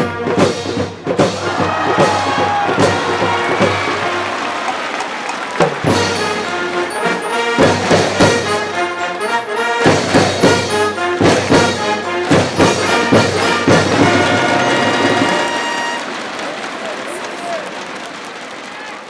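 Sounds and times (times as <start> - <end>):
drum hits: 0.0 - 16.2
brass band melody: 0.0 - 18.5.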